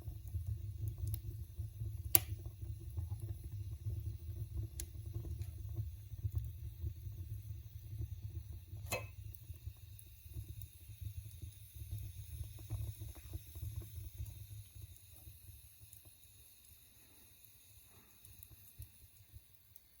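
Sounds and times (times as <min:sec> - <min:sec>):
fire rumbling and crackling: 0:00.0 - 0:20.0.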